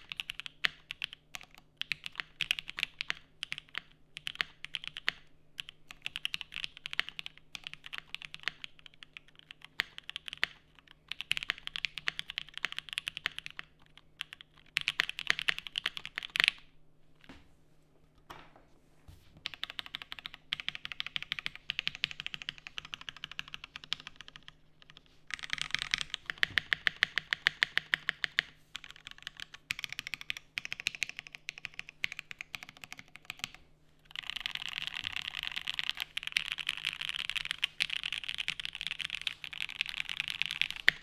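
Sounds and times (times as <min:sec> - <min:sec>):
mechanical keyboard typing: 0:00.0 - 0:16.6, 0:19.4 - 0:41.0.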